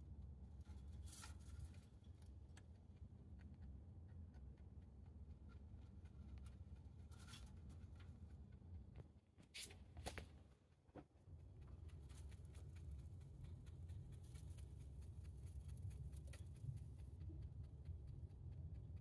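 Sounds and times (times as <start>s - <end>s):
rabbit chewing hay: 0.0s - 19.0s.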